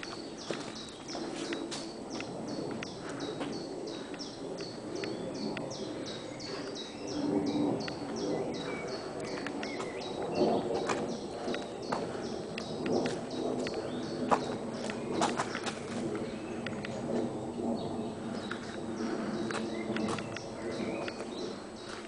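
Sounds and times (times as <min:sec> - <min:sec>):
footsteps on pavement: 0:00.0 - 0:05.2, 0:07.9 - 0:17.3, 0:18.4 - 0:22.0
low background rumble: 0:00.0 - 0:22.0.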